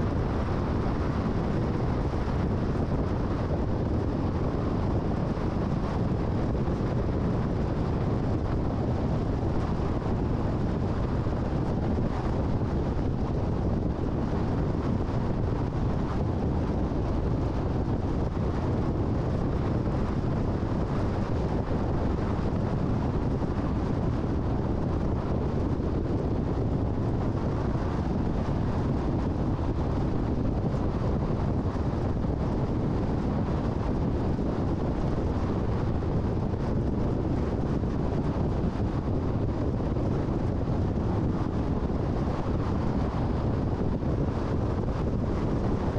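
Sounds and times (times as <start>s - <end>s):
wind noise: 0.0s - 45.9s.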